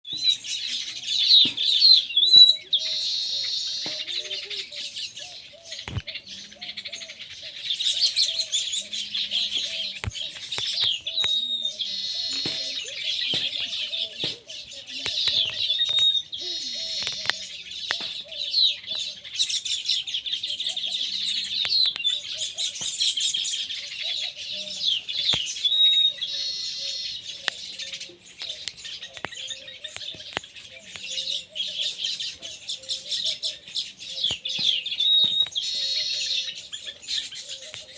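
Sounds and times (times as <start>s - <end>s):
birds chattering twitters: 0.0s - 37.9s.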